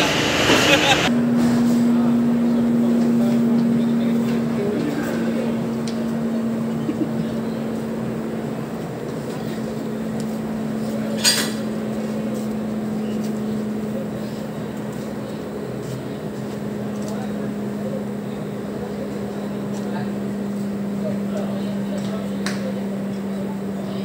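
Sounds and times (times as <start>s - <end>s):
idling locomotive hum: 0.0s - 24.0s.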